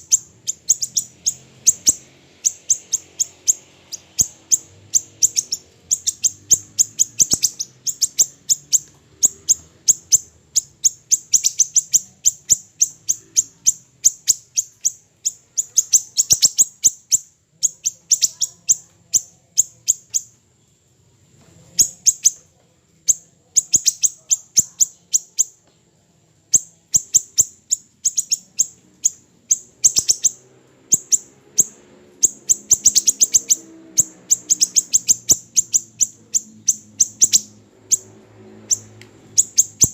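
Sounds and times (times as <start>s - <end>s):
songbird chipping: 0.0s - 20.9s, 21.5s - 39.9s.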